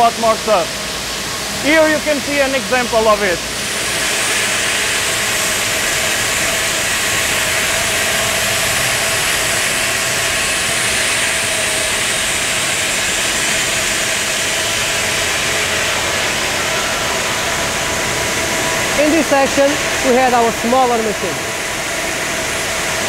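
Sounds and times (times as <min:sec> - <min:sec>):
faint machinery hums: 0:00.0 - 0:23.0
machinery hiss: 0:00.0 - 0:23.0.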